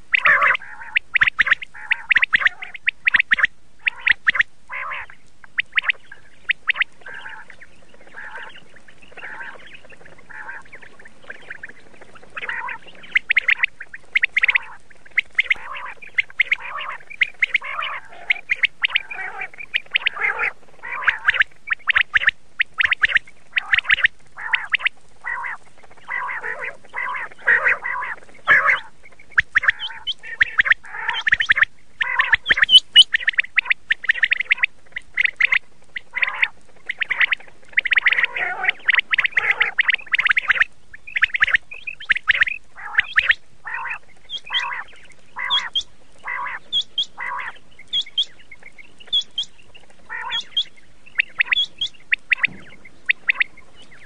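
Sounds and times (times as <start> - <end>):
quail calling: 0.0 - 54.0.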